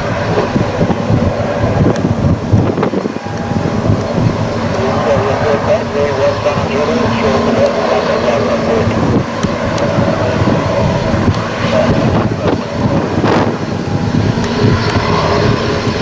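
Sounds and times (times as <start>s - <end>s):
jet engines running: 0.0s - 16.0s
wind buffeting microphone: 0.0s - 16.0s.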